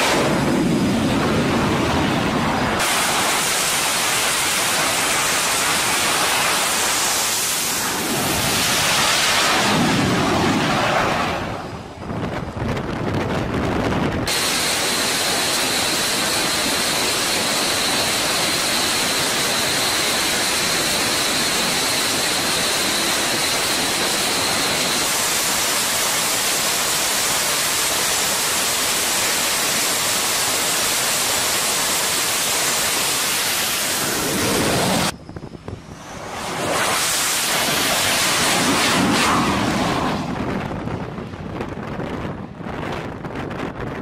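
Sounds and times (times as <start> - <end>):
jet engines roaring with turbine whine: 0.0 - 44.0.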